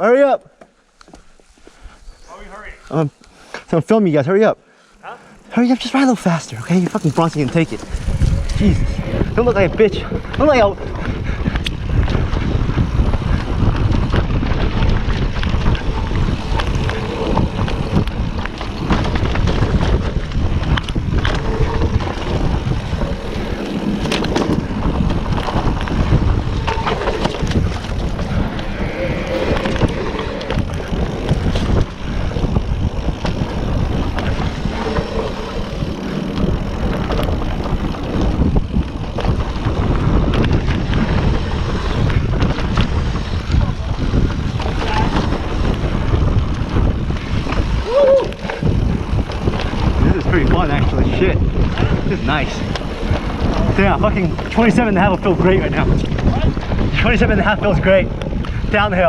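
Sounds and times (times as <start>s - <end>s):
bike clicking and rattling: 4.9s - 59.0s
wind buffeting microphone: 5.3s - 59.0s
tyre noise on dirt: 6.1s - 57.0s.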